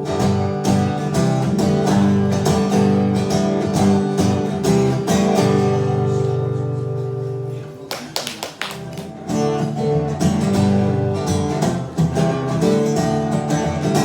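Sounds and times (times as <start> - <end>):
acoustic guitar strumming: 0.0 - 7.9, 8.7 - 14.0.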